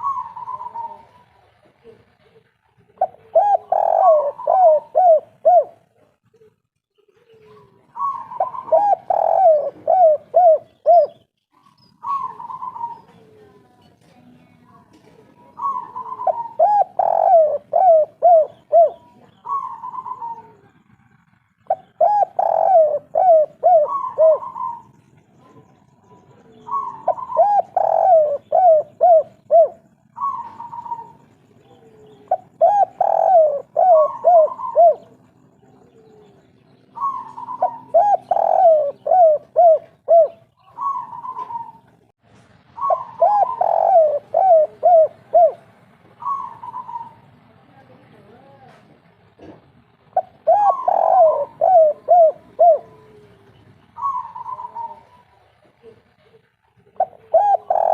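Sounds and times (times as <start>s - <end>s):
dove cooing: 0.0s - 13.7s, 15.0s - 42.1s, 42.7s - 47.3s, 50.1s - 57.9s.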